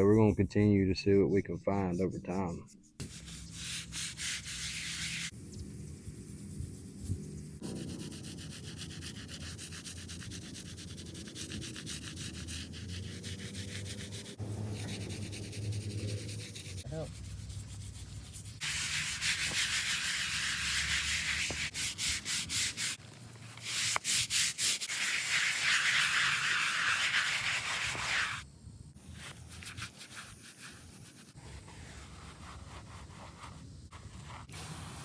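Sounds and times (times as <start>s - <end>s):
brush scrubbing stone: 1.2s - 28.4s, 29.1s - 35.0s.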